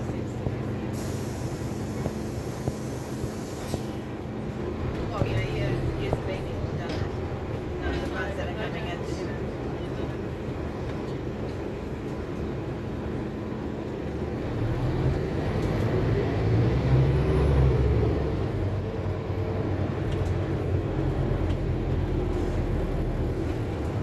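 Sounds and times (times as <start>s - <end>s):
bus diesel engine rumble: 0.0s - 24.0s
road noise: 0.0s - 24.0s.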